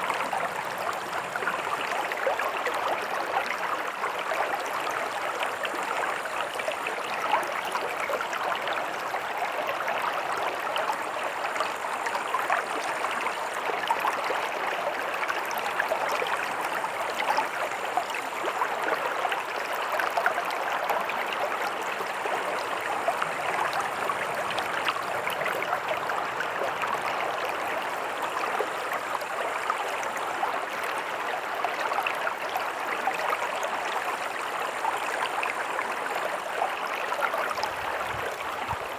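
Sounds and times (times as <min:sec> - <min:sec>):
stream rushing and gurgling: 0:00.0 - 0:38.9.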